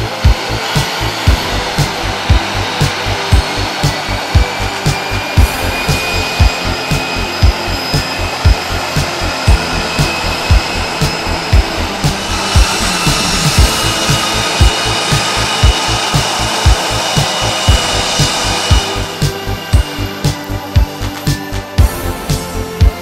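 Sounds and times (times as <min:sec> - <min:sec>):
jet engine rush and whine: 0:00.0 - 0:23.0
music with steady drum beat: 0:00.0 - 0:23.0.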